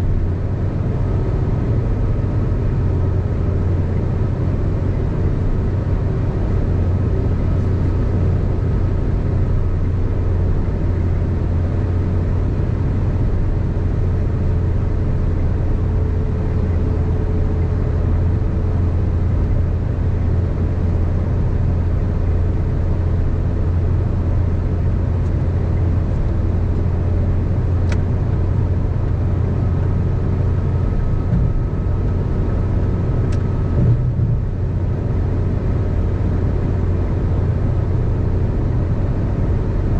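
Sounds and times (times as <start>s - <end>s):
car tyre and road noise: 0.0s - 39.9s.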